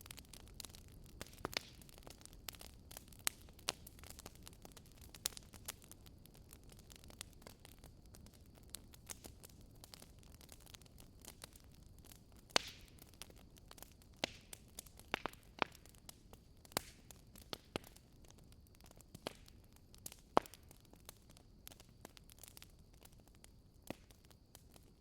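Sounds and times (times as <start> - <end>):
faint steady hiss: 0.0 - 25.0
wood fire crackling and popping: 0.0 - 25.0.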